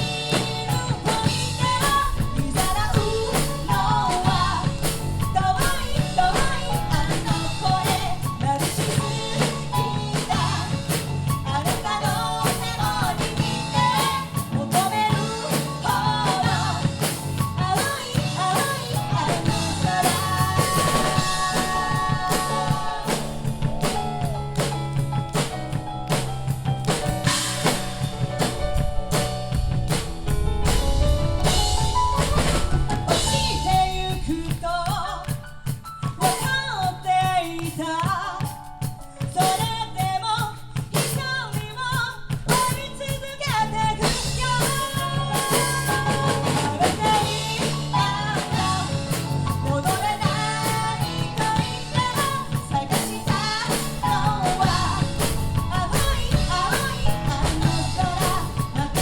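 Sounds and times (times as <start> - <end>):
person singing: 0.0 - 25.5, 31.4 - 35.5, 41.0 - 59.0
drum kit: 0.0 - 59.0
live band playing pop: 0.0 - 59.0.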